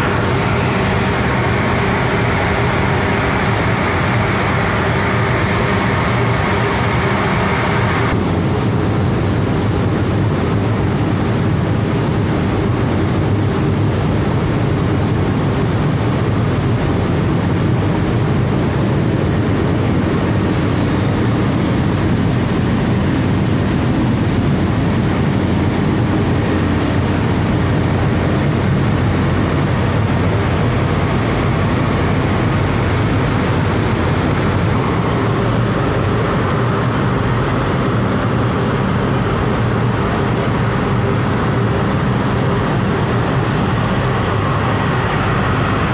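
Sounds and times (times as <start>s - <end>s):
drone of blower fans: 0.0s - 45.9s.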